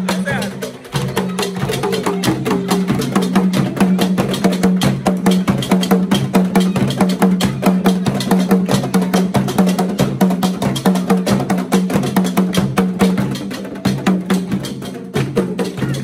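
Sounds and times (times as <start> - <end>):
drum ensemble playing: 0.0 - 16.0.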